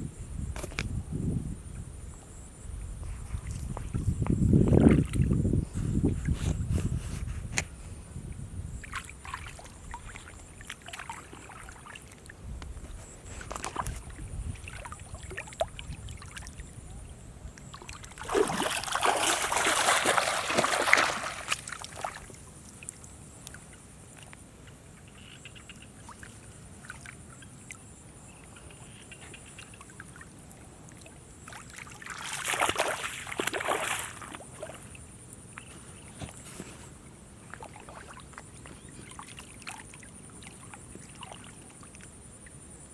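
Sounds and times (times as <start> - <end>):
water splashing and sloshing: 3.2 - 7.7, 8.7 - 16.8, 17.6 - 42.8.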